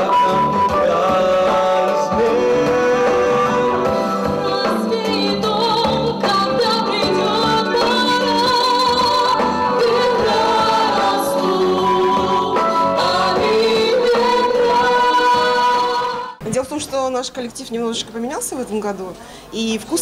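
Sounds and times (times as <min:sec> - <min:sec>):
live pop song with singing: 0:00.0 - 0:16.4.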